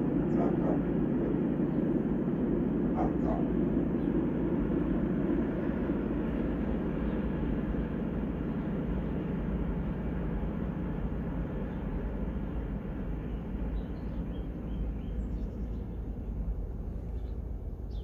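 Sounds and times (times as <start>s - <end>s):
distant freight train rumbling: 0.0s - 18.0s.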